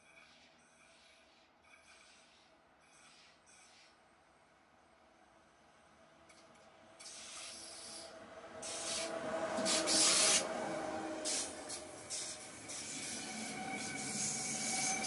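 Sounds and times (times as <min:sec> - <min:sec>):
train wheels rolling on rails: 0:00.0 - 0:04.4, 0:06.2 - 0:15.0.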